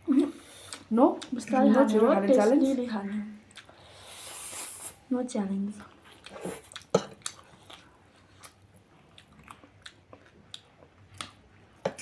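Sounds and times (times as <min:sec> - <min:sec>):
chewing: 0:00.1 - 0:02.6, 0:03.4 - 0:05.0, 0:05.7 - 0:12.0.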